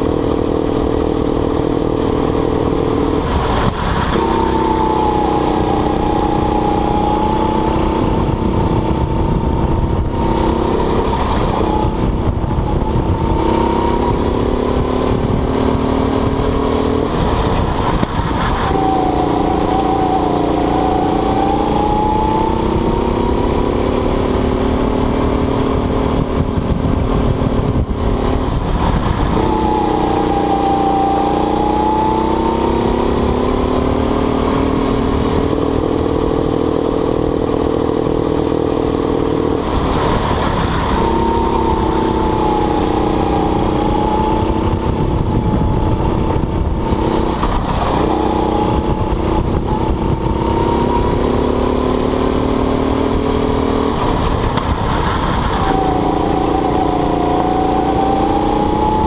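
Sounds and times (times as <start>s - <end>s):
go-kart engine: 0.0s - 59.0s.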